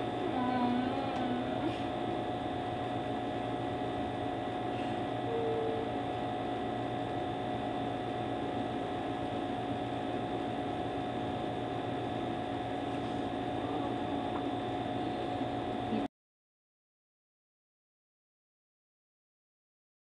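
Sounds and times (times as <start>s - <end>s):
room hum and hiss: 0.0s - 16.1s.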